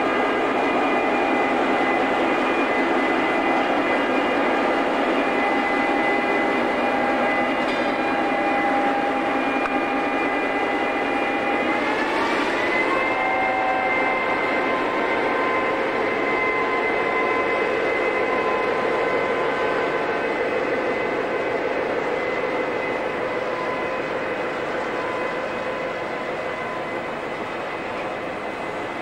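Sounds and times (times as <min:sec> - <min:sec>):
diesel locomotive engine droning: 0:00.0 - 0:29.0.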